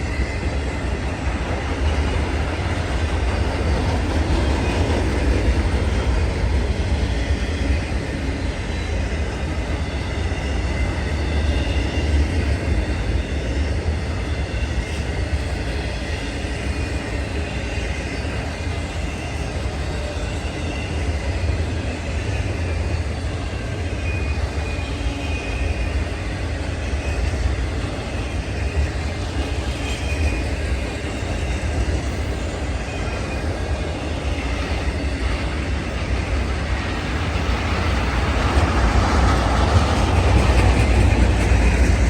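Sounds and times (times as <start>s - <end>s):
train rumbling on rails: 0.0s - 42.0s.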